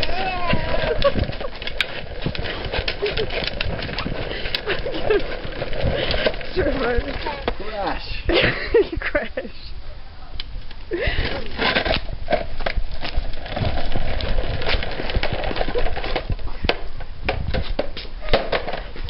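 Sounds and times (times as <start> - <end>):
plastic wheels rolling on concrete: 0.0 - 9.4, 10.4 - 19.0.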